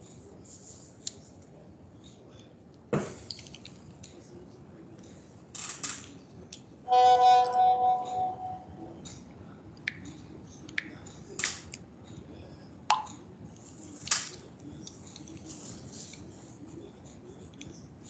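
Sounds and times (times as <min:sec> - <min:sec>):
faint room noise: 0:00.0 - 0:18.0.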